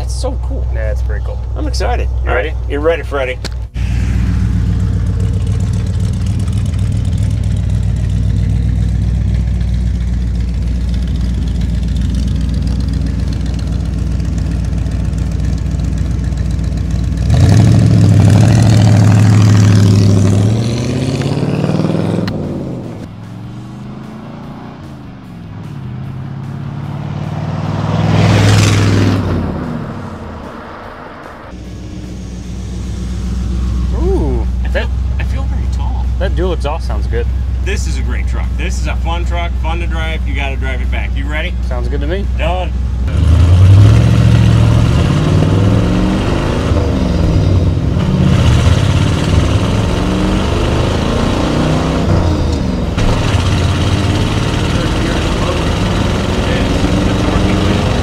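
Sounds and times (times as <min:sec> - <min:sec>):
truck engine driving past: 0:03.6 - 0:58.0.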